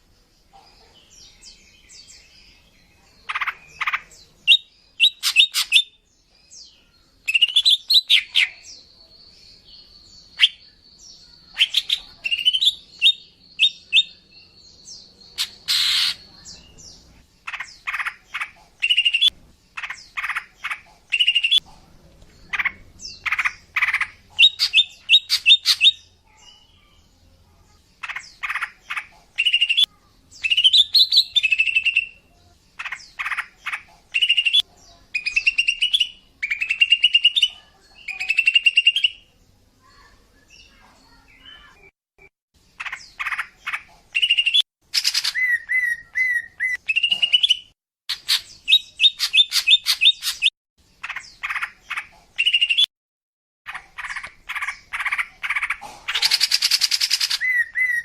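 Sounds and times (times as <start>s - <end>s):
bird chattering and trilling: 3.2s - 6.0s, 7.2s - 8.7s, 10.2s - 21.8s, 22.4s - 26.7s, 27.8s - 52.9s, 53.7s - 58.0s.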